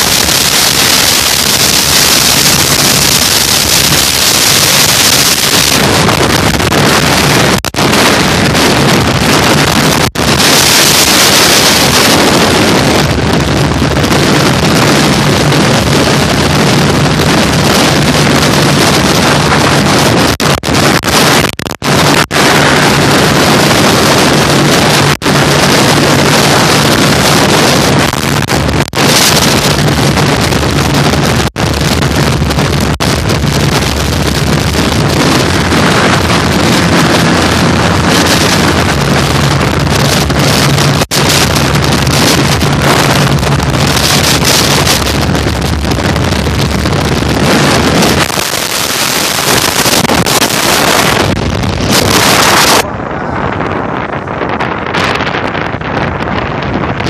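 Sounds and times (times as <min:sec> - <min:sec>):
motorcycle engine droning: 0:00.0 - 0:57.0
wind buffeting microphone: 0:00.0 - 0:57.0.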